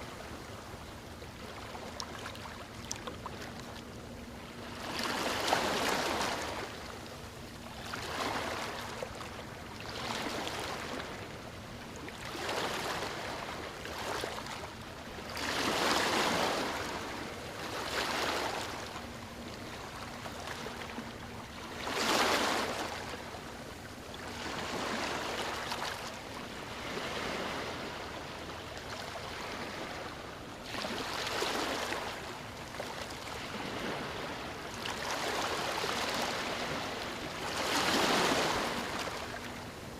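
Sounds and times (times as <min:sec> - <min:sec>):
small waves breaking on beach: 0:04.5 - 0:11.4, 0:12.0 - 0:39.9.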